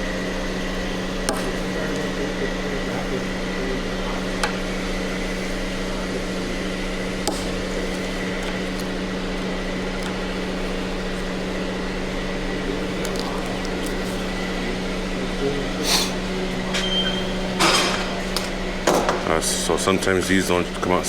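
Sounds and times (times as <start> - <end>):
shop equipment hum: 0.0 - 21.0.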